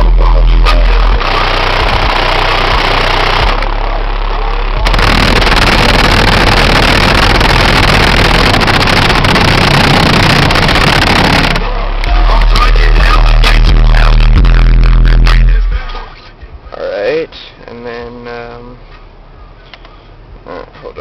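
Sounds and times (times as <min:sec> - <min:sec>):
bass-heavy music from car stereo: 0:00.0 - 0:21.0.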